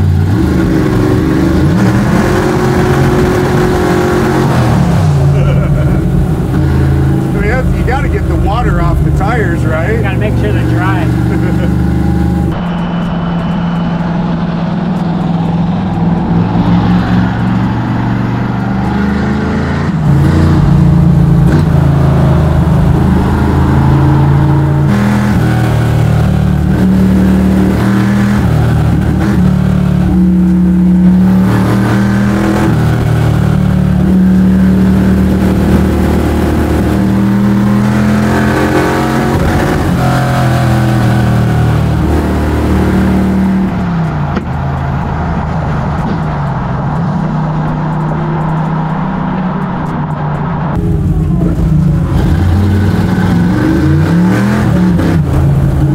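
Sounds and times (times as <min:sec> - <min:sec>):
engine revving: 0:00.0 - 0:55.9.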